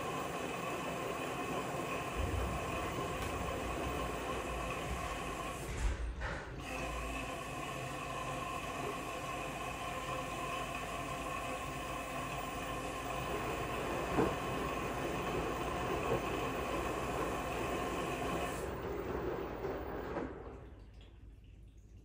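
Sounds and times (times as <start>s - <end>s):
washing machine whirring: 0.0s - 22.0s.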